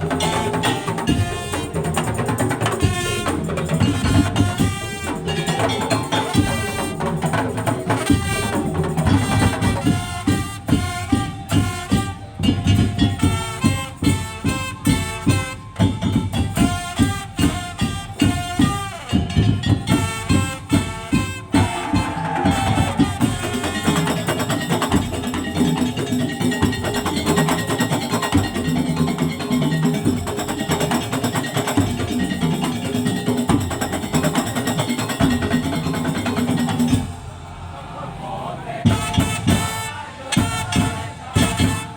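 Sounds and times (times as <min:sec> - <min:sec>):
percussion ensemble playing: 0:00.0 - 0:37.8, 0:38.7 - 0:41.9.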